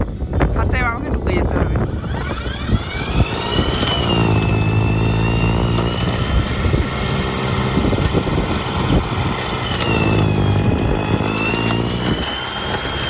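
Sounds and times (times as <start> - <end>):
engine running unevenly: 0.0 - 13.0
high whine: 1.5 - 13.0.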